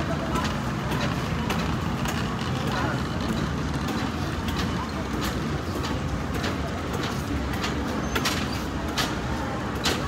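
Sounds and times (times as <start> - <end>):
shopping cart wheels rumbling: 0.0 - 10.0.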